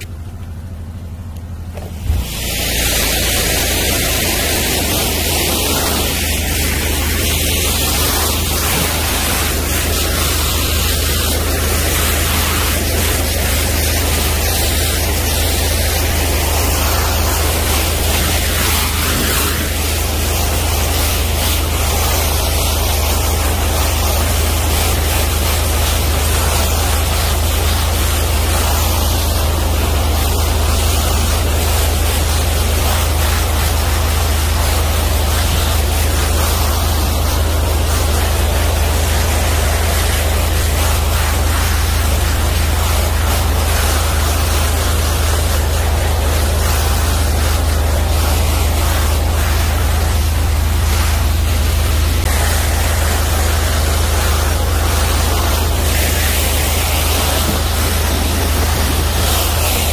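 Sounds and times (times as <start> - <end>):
pressure washer jet hissing: 0.0 - 59.9
steady low hum: 0.0 - 59.9.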